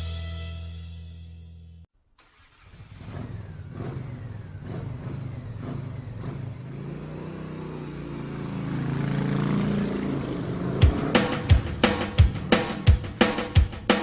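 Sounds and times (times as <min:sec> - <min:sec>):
truck engine revving: 0:02.4 - 0:14.0.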